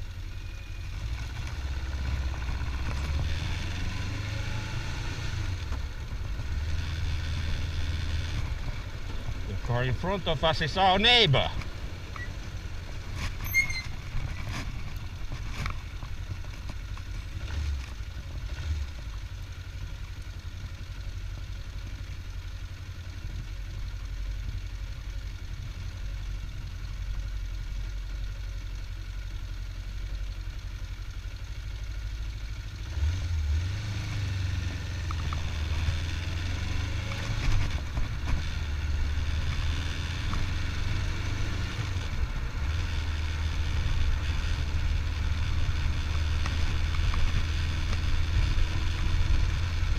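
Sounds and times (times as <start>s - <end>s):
motorcycle engine rumble: 0.0s - 49.9s.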